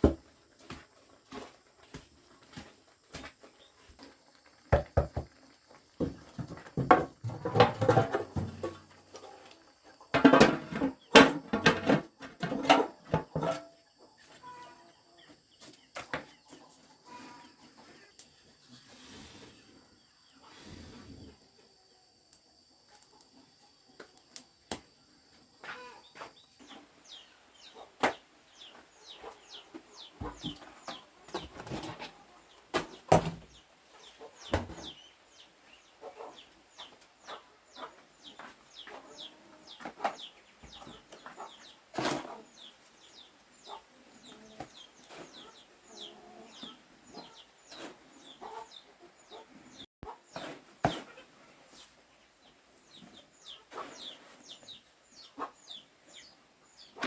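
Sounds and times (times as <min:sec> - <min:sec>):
chickens clucking: 0:05.2 - 0:21.9, 0:24.8 - 0:57.0.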